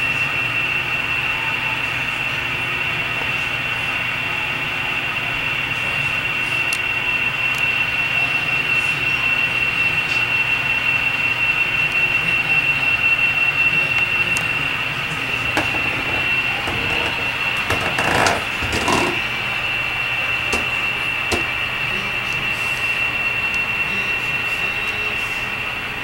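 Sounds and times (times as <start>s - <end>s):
model train whine: 0.0s - 26.0s.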